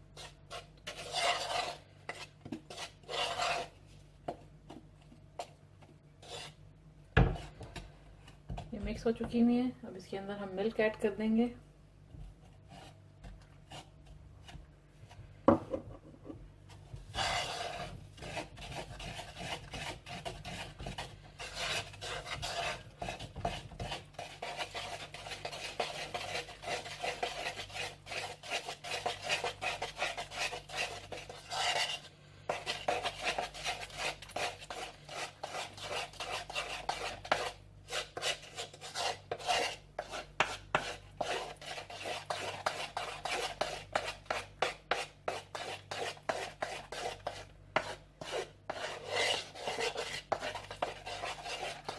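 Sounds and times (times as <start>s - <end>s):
utensil scraping batter in bowl: 0.0s - 4.0s, 6.2s - 6.6s, 12.4s - 15.2s, 16.7s - 51.9s.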